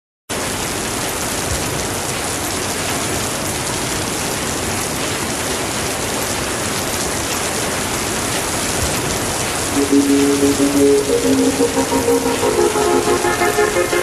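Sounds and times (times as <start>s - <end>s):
steady rain falling: 0.3s - 14.0s.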